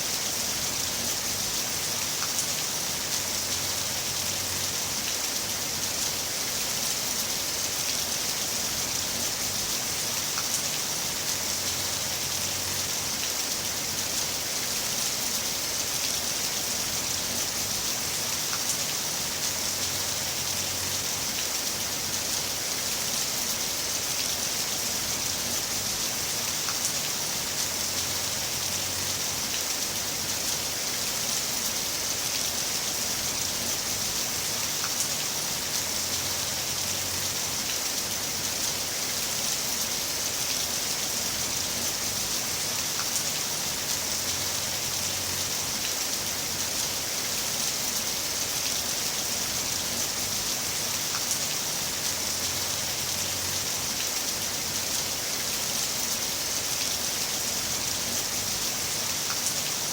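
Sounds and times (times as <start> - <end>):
heavy rain hiss: 0.0 - 59.9.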